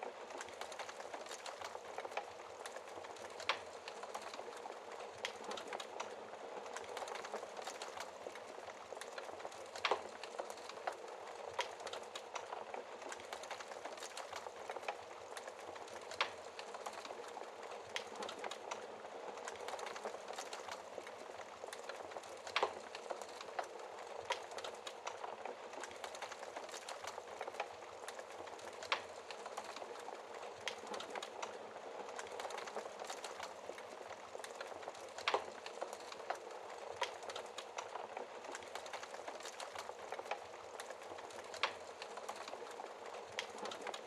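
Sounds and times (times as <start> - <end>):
fire crackling and hissing: 0.0 - 44.0.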